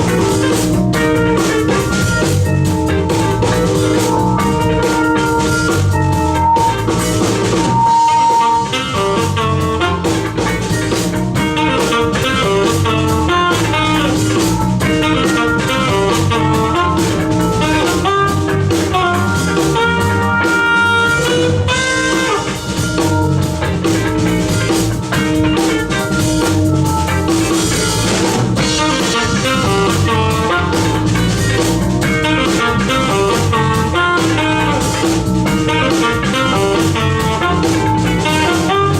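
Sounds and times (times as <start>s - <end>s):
band playing jazz fusion: 0.0s - 38.9s
drum kit: 0.0s - 38.9s
electric guitar: 0.0s - 38.9s.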